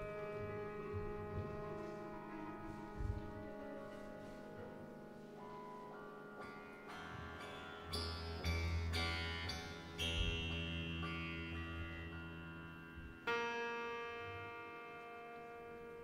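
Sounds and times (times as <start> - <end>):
piano strings ringing: 0.0 - 16.0.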